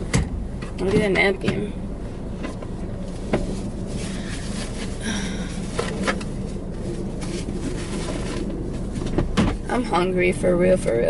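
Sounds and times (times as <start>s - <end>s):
low buzzing hum: 0.0s - 11.0s.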